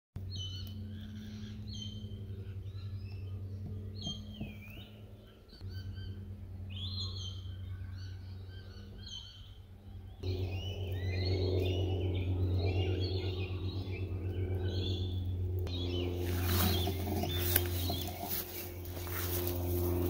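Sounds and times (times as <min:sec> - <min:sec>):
steady low hum: 0:00.2 - 0:20.0
birds chirping and whistling: 0:00.3 - 0:20.0.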